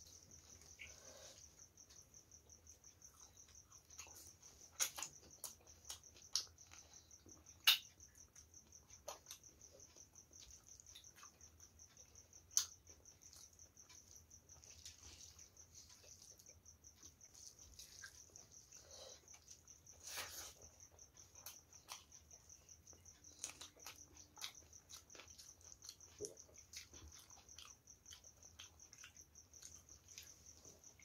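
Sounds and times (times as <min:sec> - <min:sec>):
chewing and lip smacks: 0:03.1 - 0:31.0.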